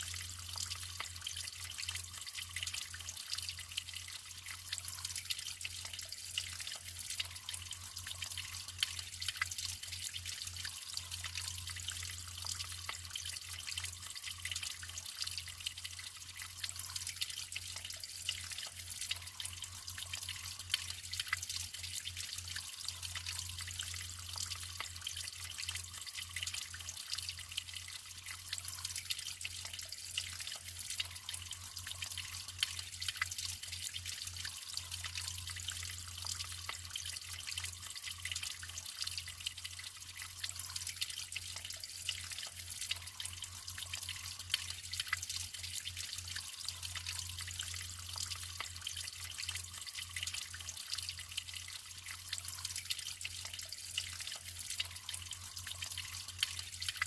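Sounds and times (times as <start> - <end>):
water dripping: 0.0 - 57.0
water trickling and splashing: 0.0 - 57.0.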